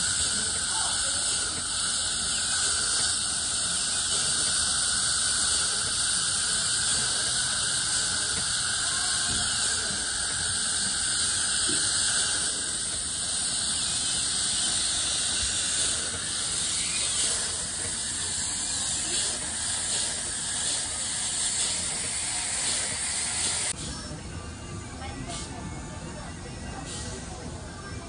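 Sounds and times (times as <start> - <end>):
dental drill hissing and whining: 0.0 - 23.8
suction tube hissing: 0.0 - 23.8.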